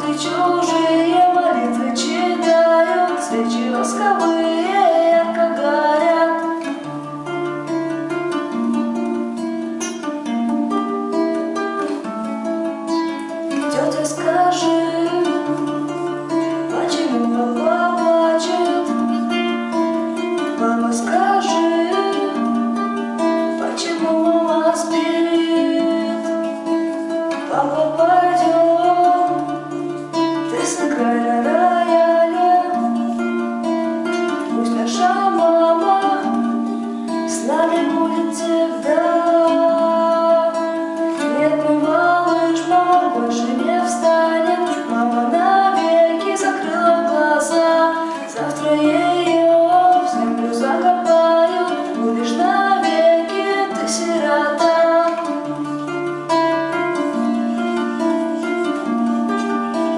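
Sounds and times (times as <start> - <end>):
acoustic guitar plucking: 0.0 - 59.9
person singing: 0.0 - 59.9.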